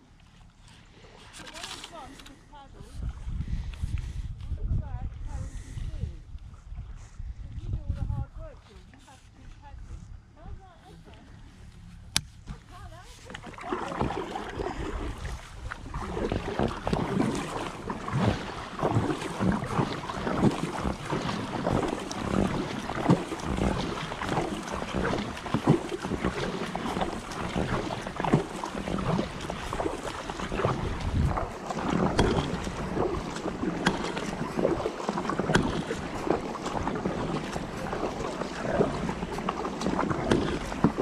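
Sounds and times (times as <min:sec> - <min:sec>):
paddle splashing in water: 0:00.0 - 0:04.3, 0:05.2 - 0:41.0
wind on microphone: 0:02.7 - 0:08.7, 0:13.9 - 0:41.0.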